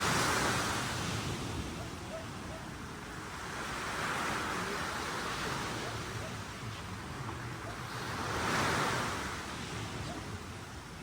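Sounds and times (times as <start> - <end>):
ocean surf washing ashore: 0.0 - 11.0.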